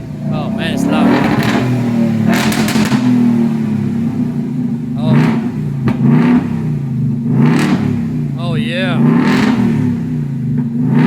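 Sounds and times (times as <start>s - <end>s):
loud deep exhaust idling: 0.0s - 11.0s.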